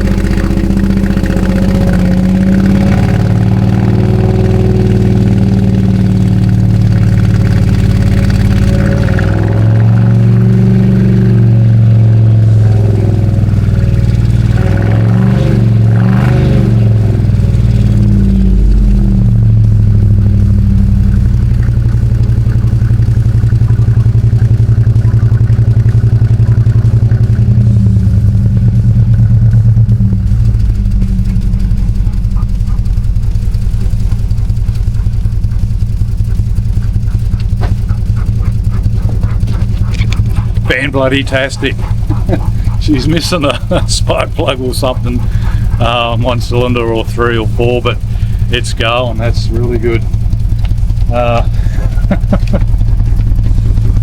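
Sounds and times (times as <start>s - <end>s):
car engine running unevenly: 0.0s - 54.0s.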